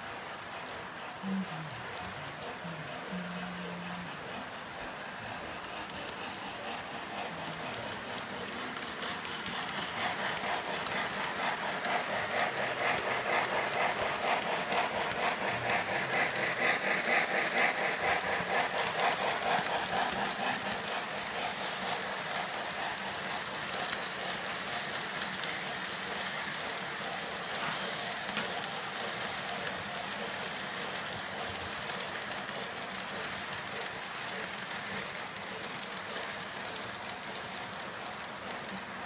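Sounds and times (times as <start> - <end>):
model train chugging clatter: 0.0 - 39.0.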